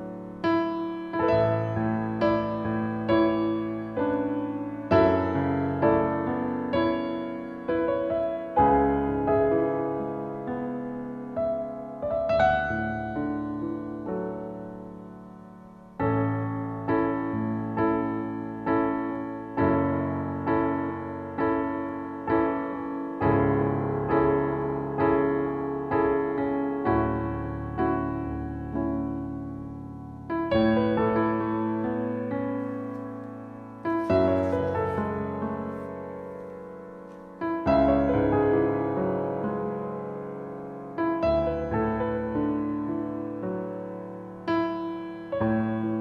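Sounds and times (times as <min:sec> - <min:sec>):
slow gentle piano music: 0:00.0 - 0:46.0.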